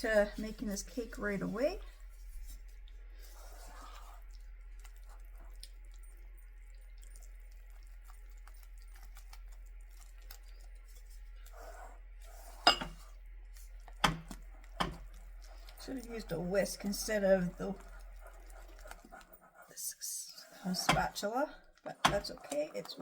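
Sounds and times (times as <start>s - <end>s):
spatula scraping batter in bowl: 0.0s - 5.9s, 7.6s - 23.0s.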